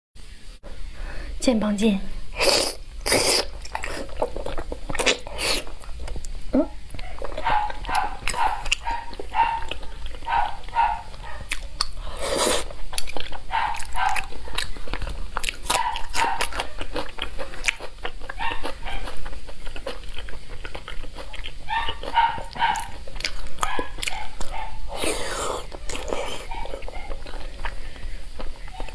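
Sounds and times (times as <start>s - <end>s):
chewing and lip-smacking: 3.0s - 28.9s.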